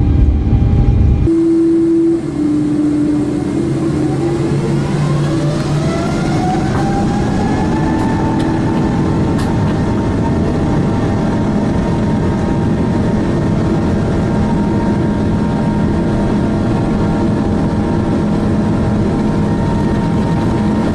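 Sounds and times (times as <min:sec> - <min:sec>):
jet engines at takeoff thrust: 0:00.0 - 0:20.9.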